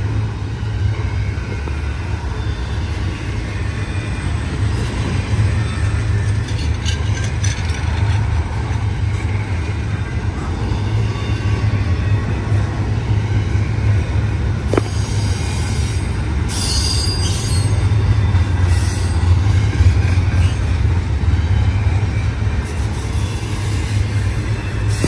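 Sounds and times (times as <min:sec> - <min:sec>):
train wheels rumbling on rail: 0:00.0 - 0:25.0
high wheel squeal: 0:00.1 - 0:25.0.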